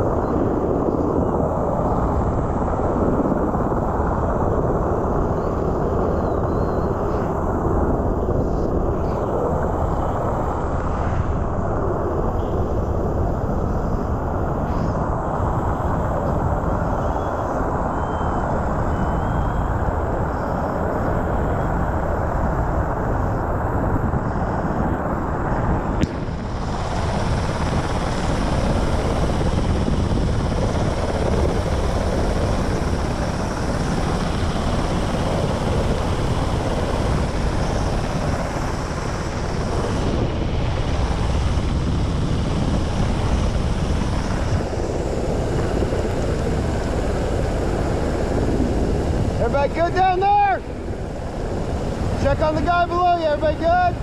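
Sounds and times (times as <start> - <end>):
helicopter rotor noise: 0.0 - 54.0.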